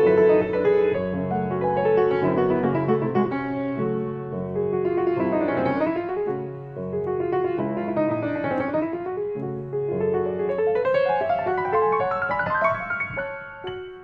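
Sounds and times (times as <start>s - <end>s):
classical piano piece: 0.0s - 14.0s.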